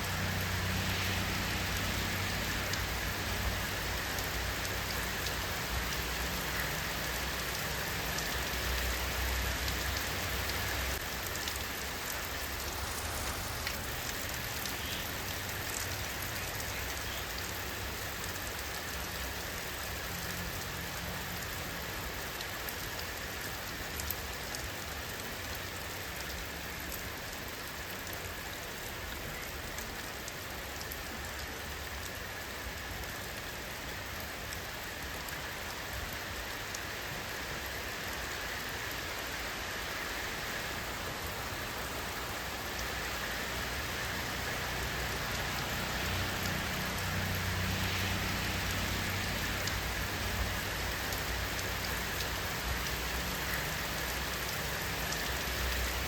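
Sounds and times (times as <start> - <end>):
rain hissing: 0.0 - 56.0
raindrop ticks: 2.5 - 21.6, 22.2 - 39.3, 44.6 - 56.0.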